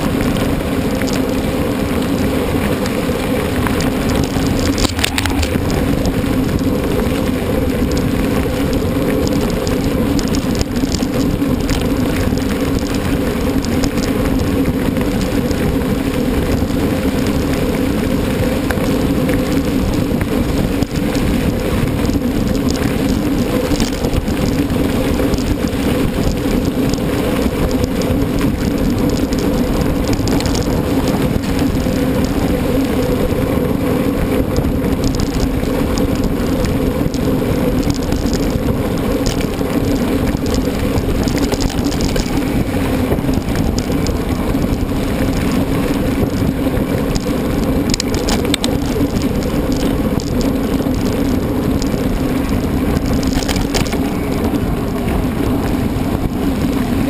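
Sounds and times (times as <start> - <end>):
bike rattling: 0.0 - 57.0
bike tyres rolling: 0.0 - 57.0.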